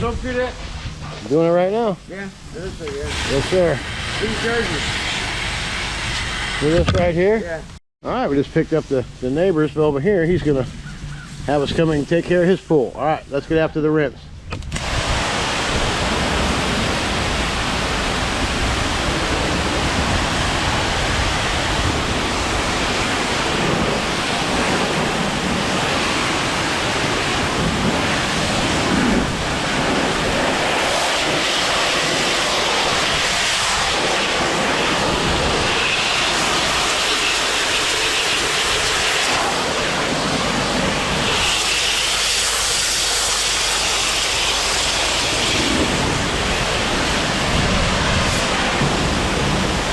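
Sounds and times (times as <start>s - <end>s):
pressure washer water jet hissing: 0.0s - 7.6s, 14.7s - 49.9s.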